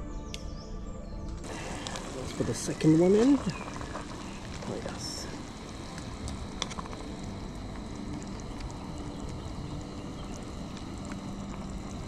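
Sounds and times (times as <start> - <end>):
burner flame rushing: 1.4 - 12.0
water bubbling: 1.4 - 12.0.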